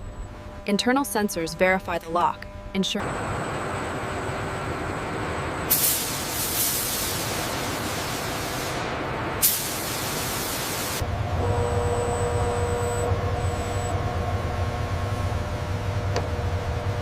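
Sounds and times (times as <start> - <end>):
machinery noise: 0.0 - 16.0
low hum with whine: 0.0 - 17.0.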